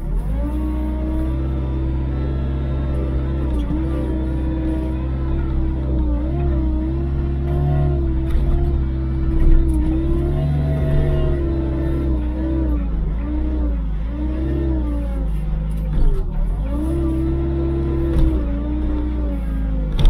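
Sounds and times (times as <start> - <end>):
wheel loader diesel engine: 0.0 - 20.0.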